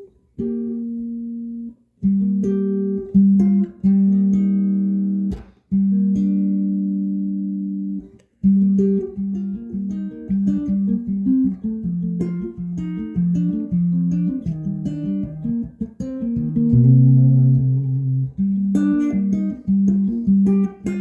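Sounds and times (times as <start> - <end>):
electric guitar chords and notes: 0.0 - 21.0.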